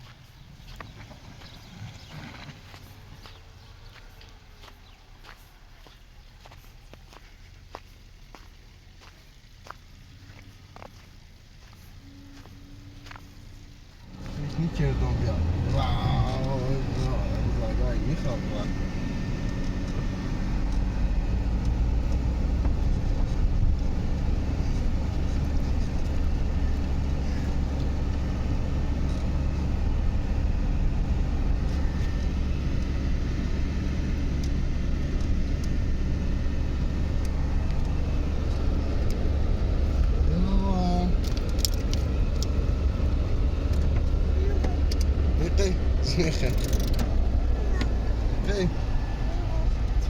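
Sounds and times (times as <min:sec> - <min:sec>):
vehicle engine and road rumble: 0:00.0 - 0:50.0.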